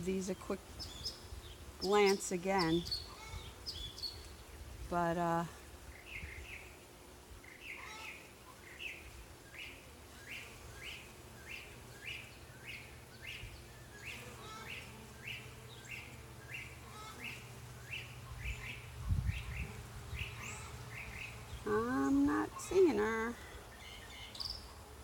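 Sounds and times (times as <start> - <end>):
bird chirping: 0.8 - 4.6, 8.6 - 24.8.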